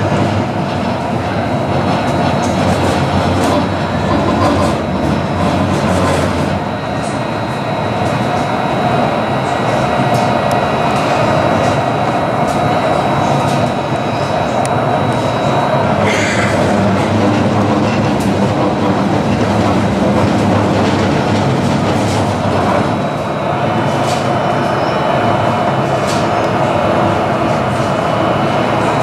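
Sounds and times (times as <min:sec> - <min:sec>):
steel wheels rumbling on rail: 0:00.0 - 0:29.0.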